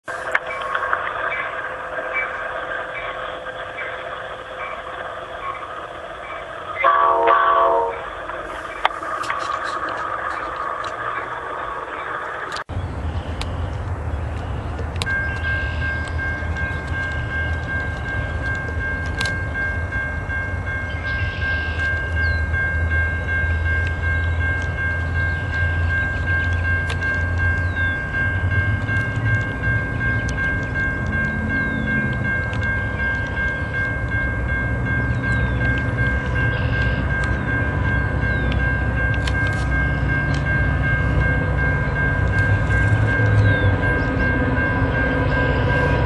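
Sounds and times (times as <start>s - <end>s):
train low rumble: 0.0s - 46.0s
high-pitched whine: 0.1s - 46.0s.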